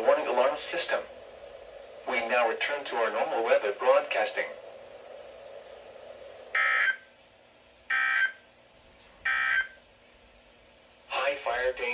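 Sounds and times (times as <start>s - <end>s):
faint radio hiss: 0.0s - 7.8s, 8.5s - 11.9s.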